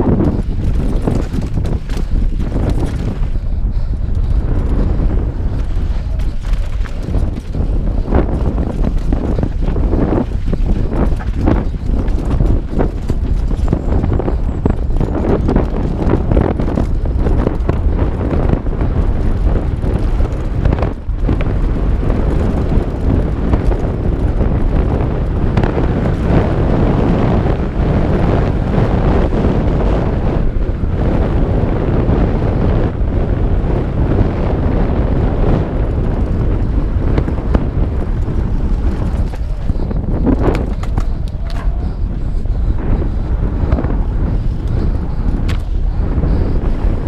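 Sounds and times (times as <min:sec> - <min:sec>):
bike clattering over rough ground: 0:00.0 - 0:26.9, 0:35.0 - 0:47.0
bike tyres rumbling: 0:00.0 - 0:47.0
wind buffeting microphone: 0:00.0 - 0:47.0.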